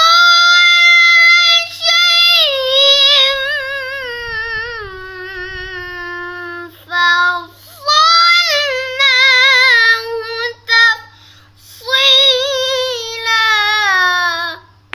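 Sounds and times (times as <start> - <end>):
boy chanting recitation: 0.0 - 14.8.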